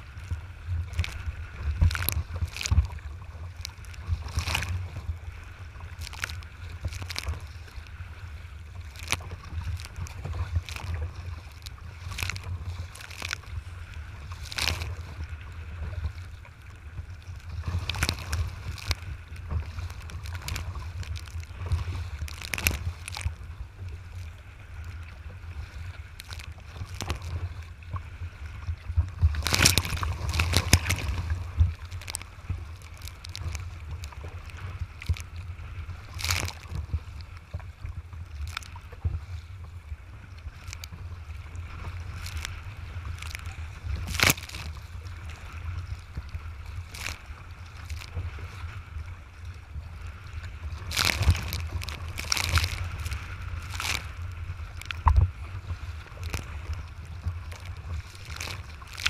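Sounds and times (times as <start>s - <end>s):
water slapping hull: 0.0s - 59.0s.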